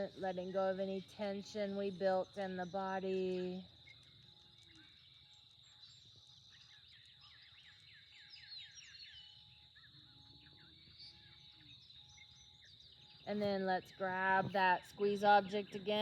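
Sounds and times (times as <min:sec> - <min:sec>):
faint birdsong: 0:00.0 - 0:16.0
high insect drone: 0:00.0 - 0:16.0.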